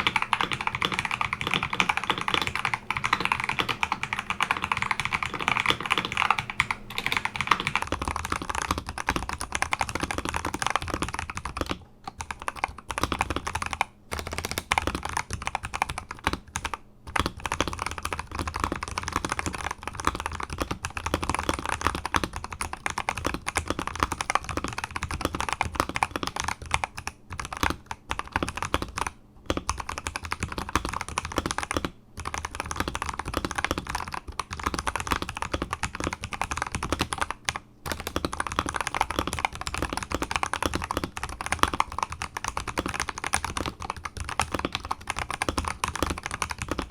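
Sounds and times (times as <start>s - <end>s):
mechanical keyboard typing: 0.0s - 46.9s.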